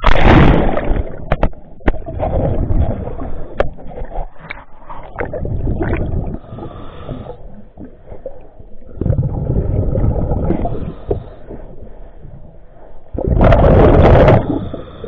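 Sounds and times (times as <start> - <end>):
exhaled bubbles underwater: 0.0 - 15.0.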